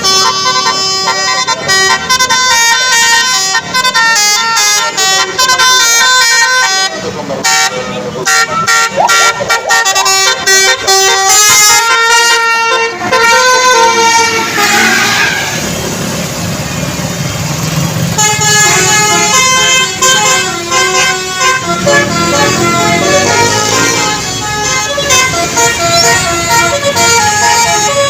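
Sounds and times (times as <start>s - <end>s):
multi-tone bus horn melody: 0.0s - 16.9s, 17.6s - 28.0s
engine rumble: 4.8s - 28.0s.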